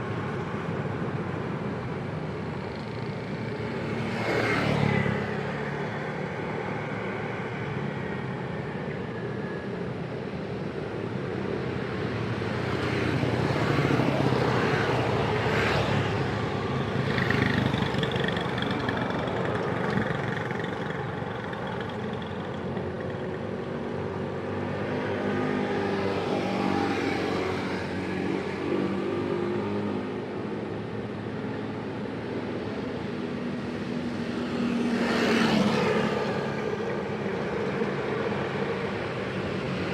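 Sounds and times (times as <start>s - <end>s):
road traffic passing: 0.0s - 39.9s.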